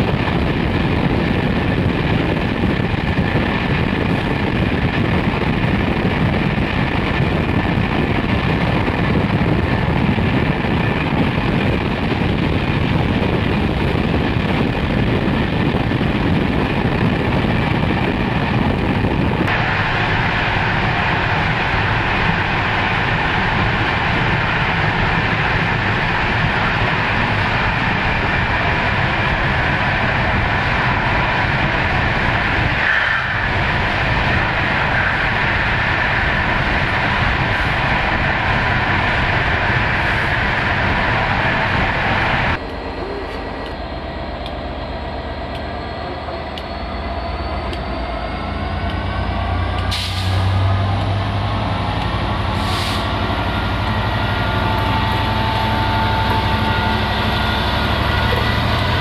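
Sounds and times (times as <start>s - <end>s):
rushing air: 0.0s - 59.0s
train wheels on rails: 0.0s - 59.0s.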